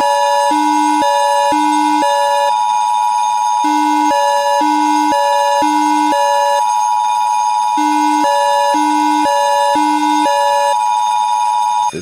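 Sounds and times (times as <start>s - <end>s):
alarm tone switching low and high: 0.0s - 11.8s
fire alarm steady high beep: 0.0s - 11.9s.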